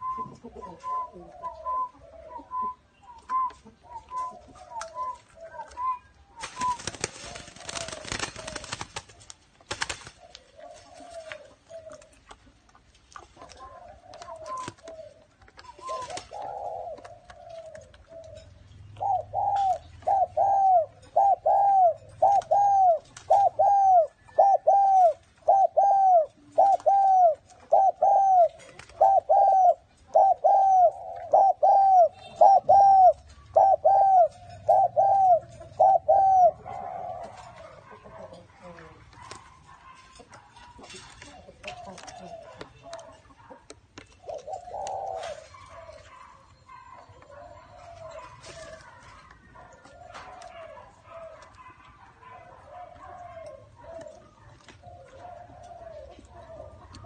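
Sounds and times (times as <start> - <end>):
dove cooing: 0.0 - 9.3, 9.9 - 12.6, 13.2 - 57.0.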